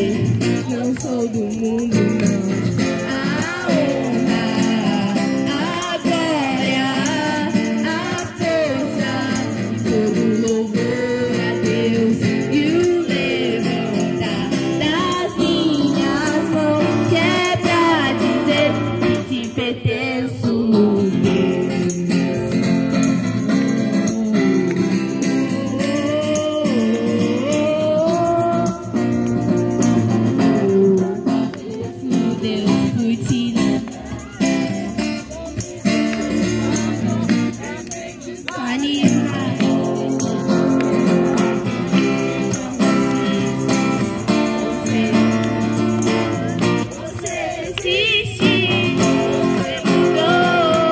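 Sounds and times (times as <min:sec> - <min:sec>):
woman singing into microphone: 0:00.0 - 0:22.3, 0:23.9 - 0:41.9, 0:42.5 - 0:50.9
acoustic guitar: 0:00.0 - 0:50.9.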